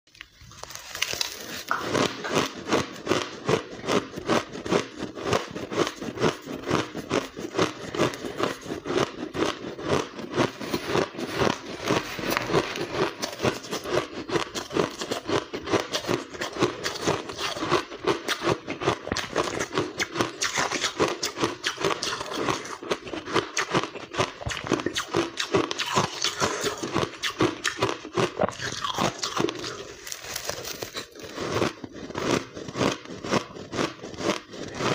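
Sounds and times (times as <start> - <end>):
ice being crunched and chewed: 0.1 - 34.9.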